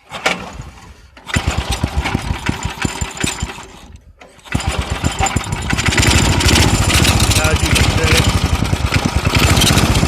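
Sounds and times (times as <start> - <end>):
go-kart engine running: 1.2 - 10.0.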